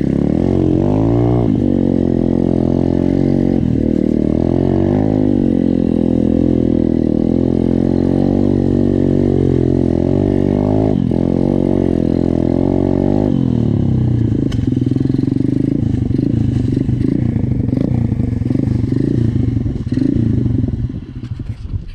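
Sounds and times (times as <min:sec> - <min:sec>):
motorbike engine revving: 0:00.0 - 0:21.9.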